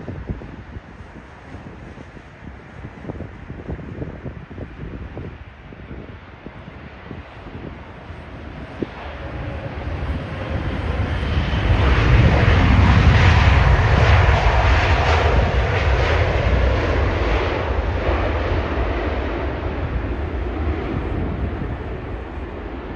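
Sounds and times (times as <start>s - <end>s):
jet airliner passing overhead: 0.0s - 22.9s.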